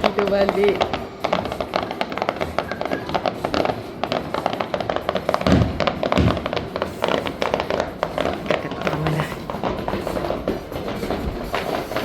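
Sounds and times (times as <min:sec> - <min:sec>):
deep firework booms: 0:00.0 - 0:12.0
fireworks crackling and popping: 0:00.0 - 0:12.0
music: 0:00.0 - 0:12.0.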